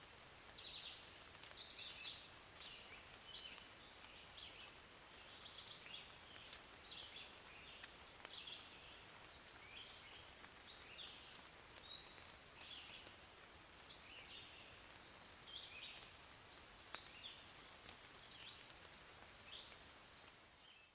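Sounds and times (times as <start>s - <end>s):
faint rain: 0.0s - 20.9s.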